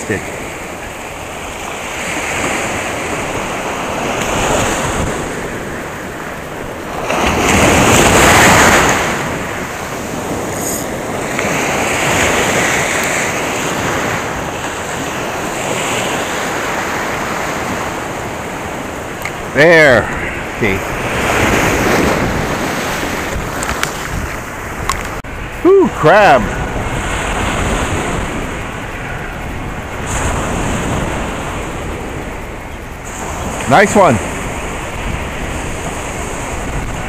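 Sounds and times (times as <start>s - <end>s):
small surf washing over sand: 0.0s - 24.8s, 25.8s - 37.0s.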